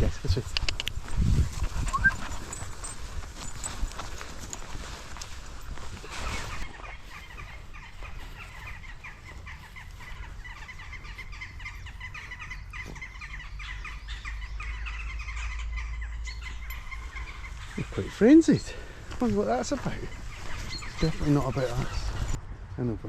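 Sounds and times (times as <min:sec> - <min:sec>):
birds chattering: 0:01.7 - 0:22.9.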